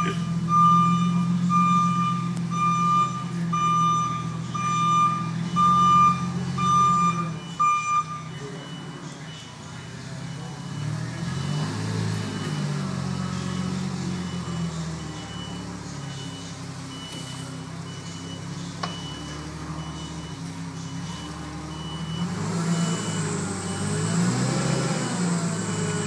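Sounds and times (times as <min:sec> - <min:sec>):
vehicle engine running: 0:00.0 - 0:07.8, 0:09.7 - 0:26.0
reversing alarm beeps: 0:00.0 - 0:26.0.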